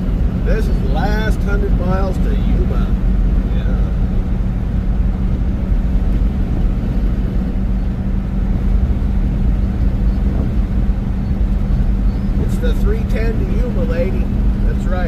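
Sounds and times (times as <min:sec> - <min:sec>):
car road noise rumble: 0:00.0 - 0:15.0
constant hum: 0:00.0 - 0:15.0.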